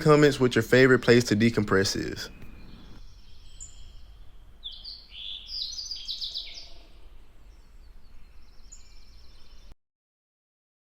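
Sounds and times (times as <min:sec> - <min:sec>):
faint repeated bird notes: 0:00.0 - 0:09.8
songbird singing high notes: 0:00.0 - 0:09.8.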